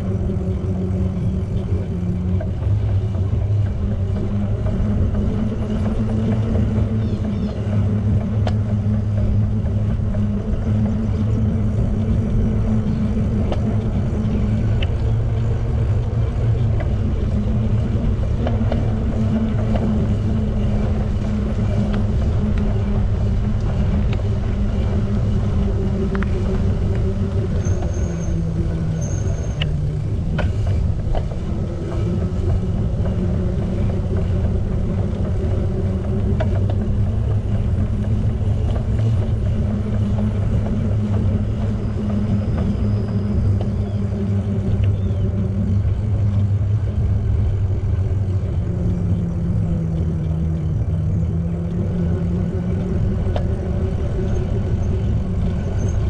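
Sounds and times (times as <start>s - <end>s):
bicycle tyres rolling on pavement: 0.0s - 56.0s
wind noise on microphone: 0.0s - 56.0s.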